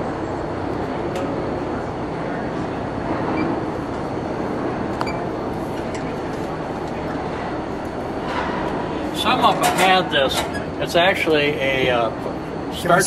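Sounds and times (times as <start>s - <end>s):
many people talking: 0.0s - 13.0s.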